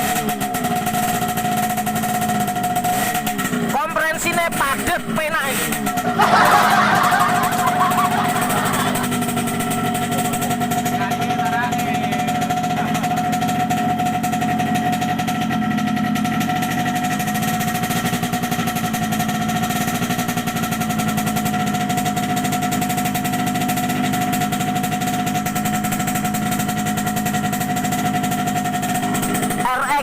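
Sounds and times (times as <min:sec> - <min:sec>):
two-stroke motorcycle engine running: 0:00.0 - 0:30.0.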